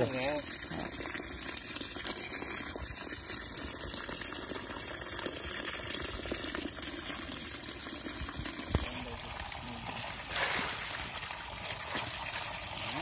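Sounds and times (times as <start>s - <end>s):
water gushing from a pipe: 0.0s - 13.0s.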